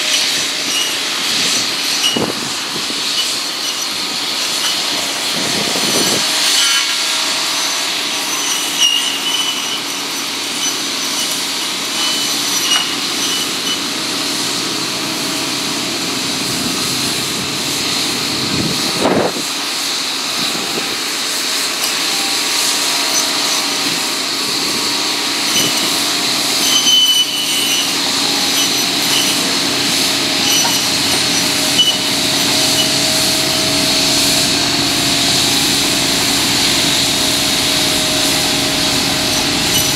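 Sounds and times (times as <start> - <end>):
saw blades cutting branches: 0.0 - 15.0, 20.0 - 39.9
tractor engine: 0.0 - 39.9.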